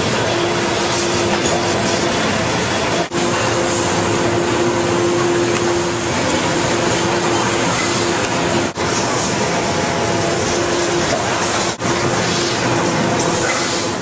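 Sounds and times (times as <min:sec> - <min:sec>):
factory machinery noise: 0:00.0 - 0:14.0.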